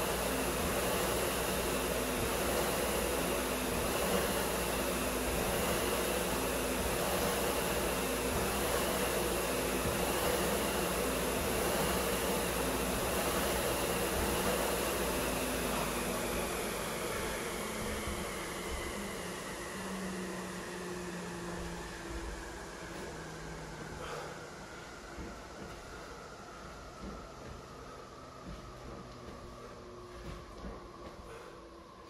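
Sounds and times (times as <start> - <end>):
fan flywheel whooshing: 0.0 - 27.1.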